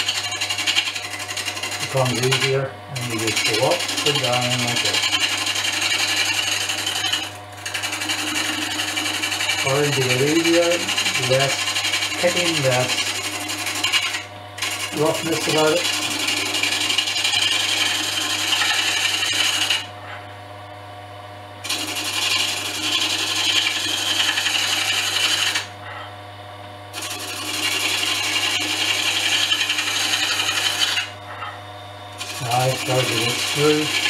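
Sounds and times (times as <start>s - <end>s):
cutter scraping spinning wood: 0.0s - 20.3s, 21.6s - 26.1s, 26.9s - 34.0s
lathe motor hum: 0.0s - 20.4s, 21.6s - 26.1s, 26.9s - 34.0s.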